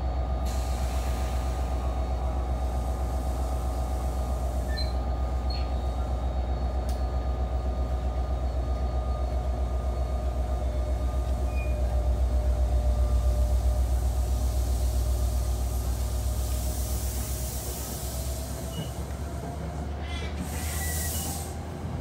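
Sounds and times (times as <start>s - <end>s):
diesel locomotive rumbling: 0.0s - 22.0s.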